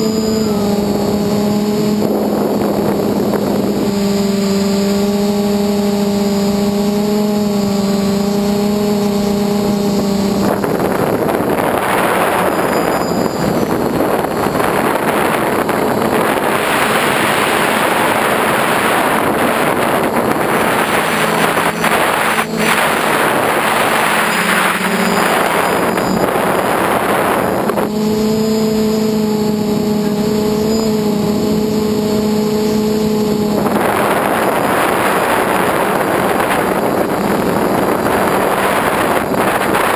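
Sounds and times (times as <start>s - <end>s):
electric motor and propeller humming: 0.0s - 39.9s
wind rushing over microphone: 0.0s - 39.9s.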